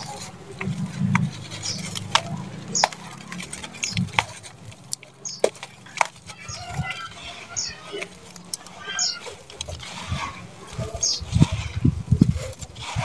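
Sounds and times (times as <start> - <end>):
cement chunks crumbling in hands: 0.0 - 11.6.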